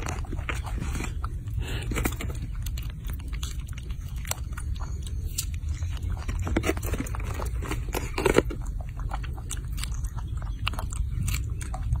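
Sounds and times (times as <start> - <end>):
monkey chewing strawberries: 0.0 - 12.0
steady low rumble: 0.0 - 12.0.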